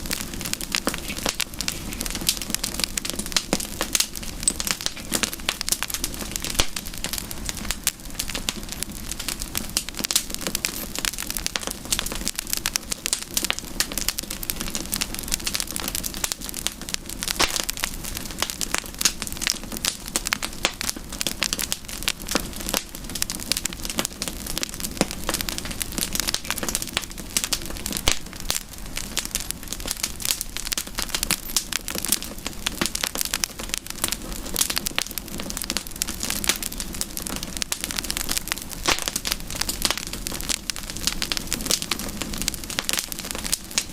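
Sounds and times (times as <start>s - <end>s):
campfire crackling and popping: 0.0s - 43.9s
low rumble of fire: 0.0s - 43.9s.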